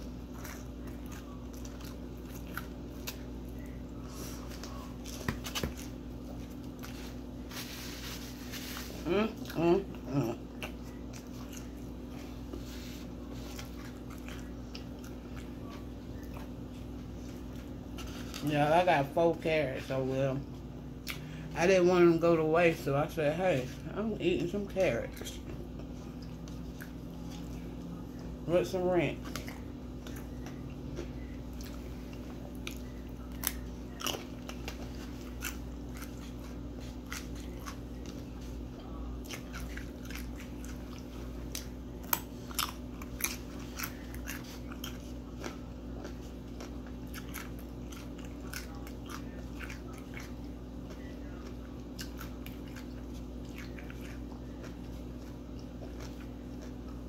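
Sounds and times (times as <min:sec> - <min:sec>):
chewing and crunching carrots: 0:00.0 - 0:57.0
steady low hum: 0:00.0 - 0:57.0.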